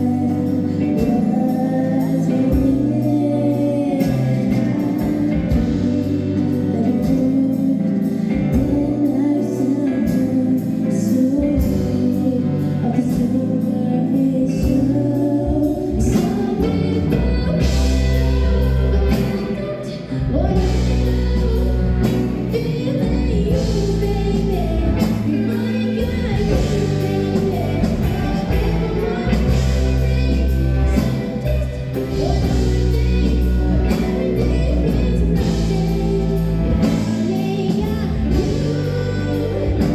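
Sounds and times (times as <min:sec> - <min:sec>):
gospel song with band: 0:00.0 - 0:39.9.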